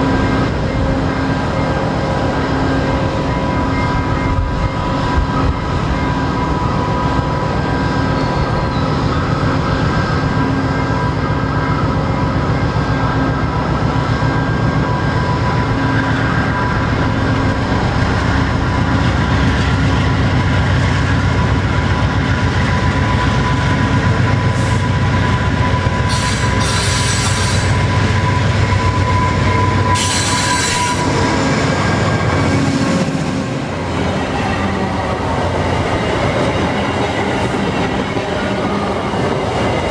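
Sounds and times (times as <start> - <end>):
diesel locomotive engine rumble: 0.0 - 39.9
train wheels on rails: 0.0 - 39.9.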